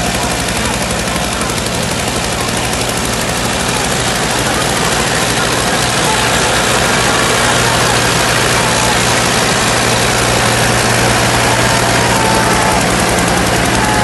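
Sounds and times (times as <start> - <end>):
tractor engines under heavy load: 0.0 - 14.0.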